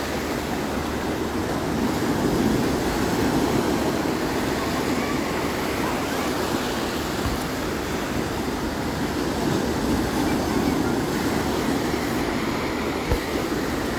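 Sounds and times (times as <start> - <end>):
sea waves: 0.0 - 13.9.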